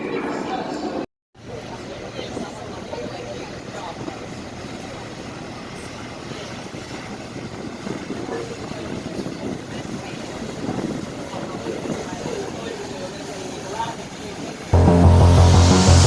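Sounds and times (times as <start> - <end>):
faint voices: 0.0 - 14.7.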